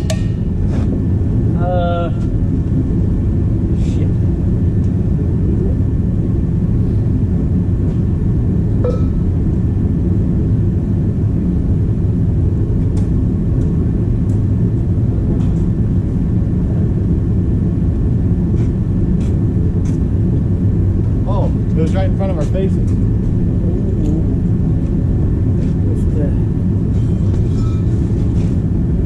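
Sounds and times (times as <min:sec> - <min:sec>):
heavy equipment engine rumbling: 0:00.0 - 0:29.0.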